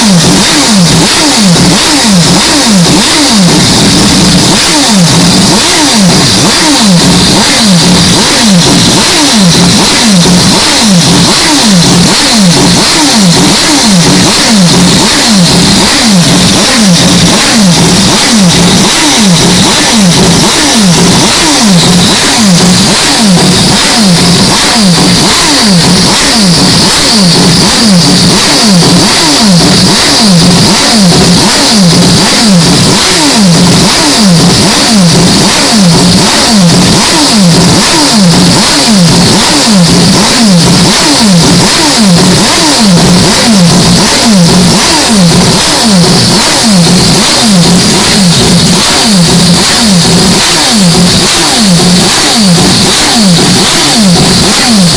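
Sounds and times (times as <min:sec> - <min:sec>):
rotary engine revving: 0:00.0 - 0:54.9.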